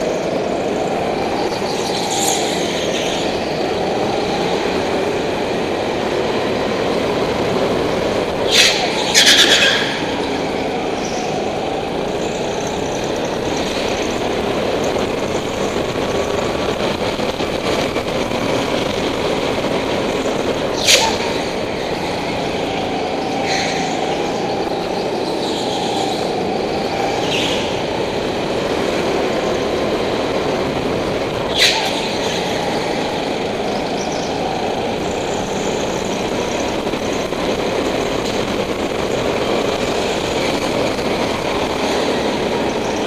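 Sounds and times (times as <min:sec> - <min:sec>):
go-kart motor running hard: 0:00.0 - 0:43.0.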